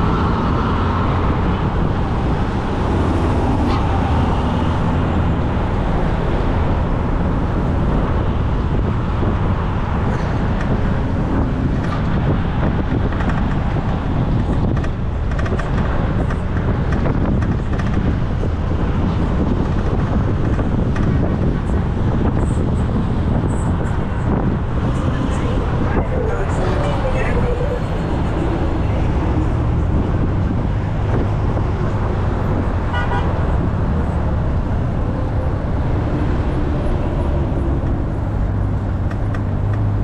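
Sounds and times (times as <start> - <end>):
city street traffic: 0.0 - 40.0.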